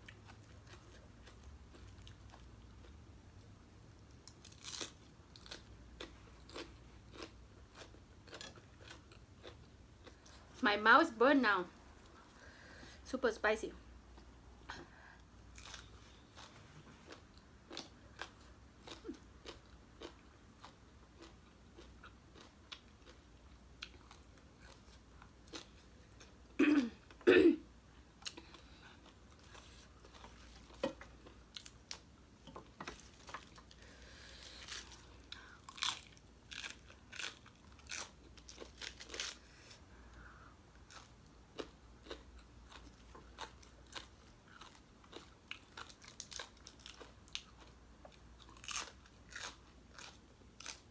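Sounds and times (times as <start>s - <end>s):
person chewing and crunching: 0.0s - 3.2s, 4.0s - 10.6s, 15.4s - 27.2s, 28.0s - 50.9s.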